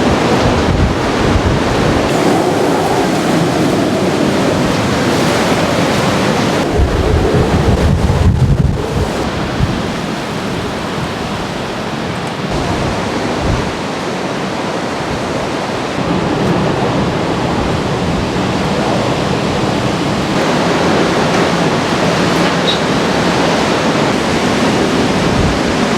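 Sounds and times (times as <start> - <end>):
driving rain: 0.0 - 14.4, 15.0 - 25.9
roaring wind: 0.0 - 25.9.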